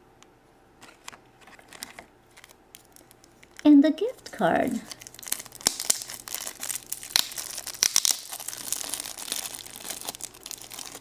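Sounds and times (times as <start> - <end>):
plastic packaging crinkling: 0.8 - 11.0.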